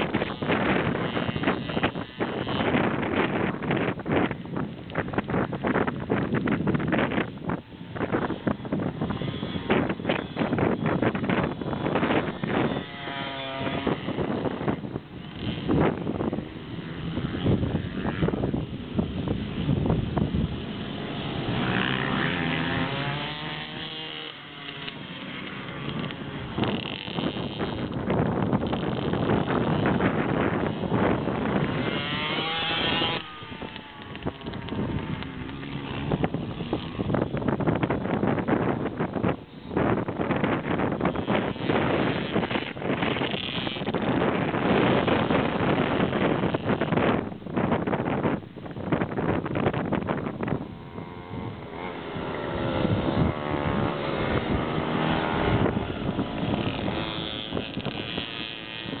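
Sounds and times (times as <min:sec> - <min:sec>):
dirt bike engine revving: 0:00.0 - 0:59.0
wind buffeting microphone: 0:00.0 - 0:59.0.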